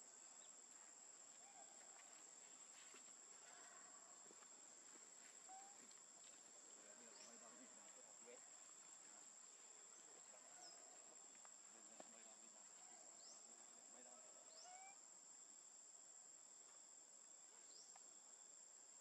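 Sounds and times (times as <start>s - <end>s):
insect drone: 0.0s - 19.0s.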